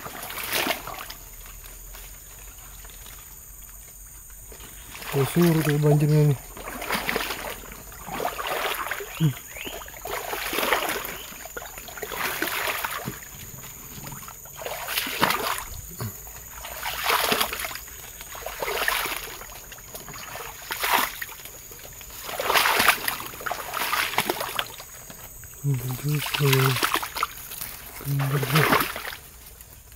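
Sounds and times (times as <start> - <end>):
footsteps wading through water: 0.0 - 29.9.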